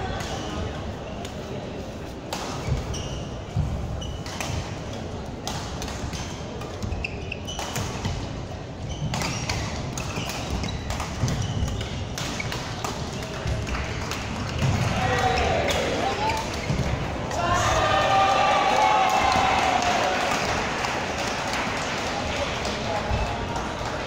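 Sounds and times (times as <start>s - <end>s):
sports hall background noise: 0.0s - 24.0s.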